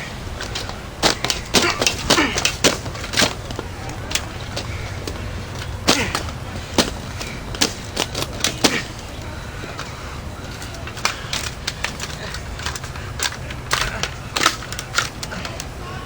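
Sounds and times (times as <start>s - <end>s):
box fan being smashed: 0.4s - 15.7s
sharp cracks and whacks: 0.4s - 15.7s.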